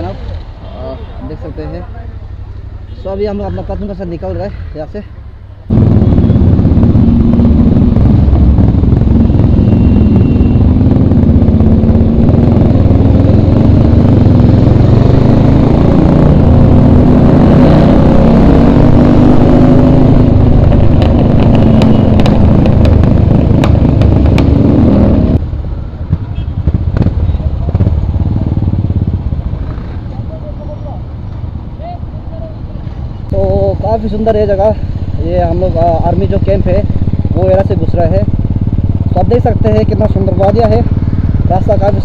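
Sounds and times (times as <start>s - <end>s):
motorcycle engines revving: 5.7s - 42.0s.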